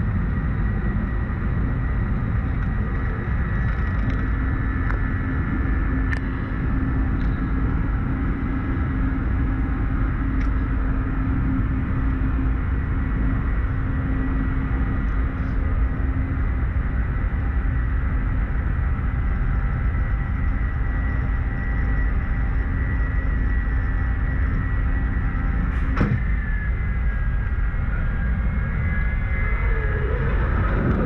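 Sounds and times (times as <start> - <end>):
aircraft engines droning: 0.0 - 31.0.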